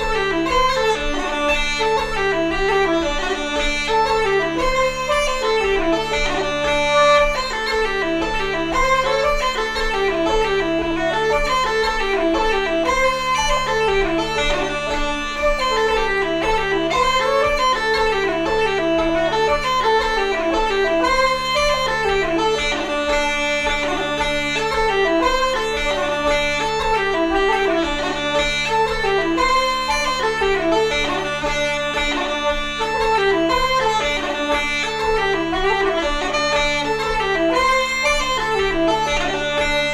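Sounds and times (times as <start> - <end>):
pipe drones low note: 0.0 - 39.9
uilleann pipes melody: 0.0 - 39.9
wooden flute playing a jig: 0.0 - 39.9.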